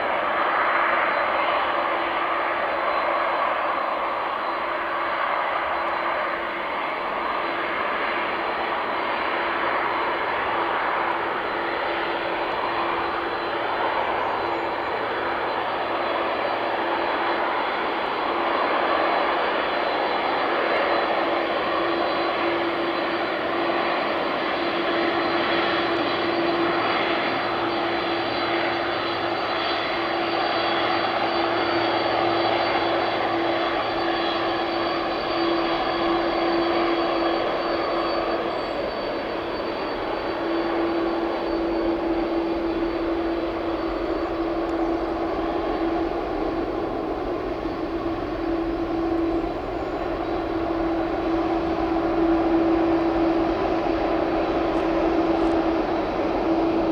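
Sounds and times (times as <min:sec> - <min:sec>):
jet engine whine: 0:00.0 - 0:56.9.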